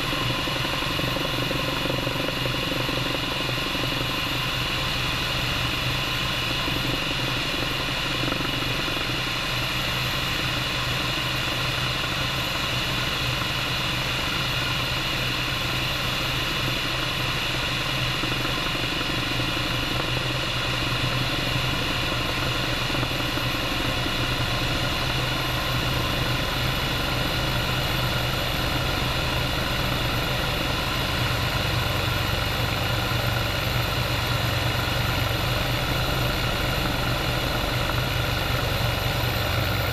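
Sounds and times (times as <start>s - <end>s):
helicopter engines and rotor running: 0.0s - 39.9s.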